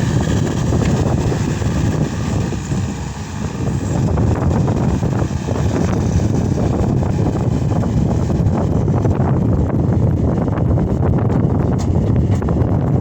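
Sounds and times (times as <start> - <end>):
diesel engine running: 0.0 - 13.0
wind buffeting microphone: 0.0 - 13.0.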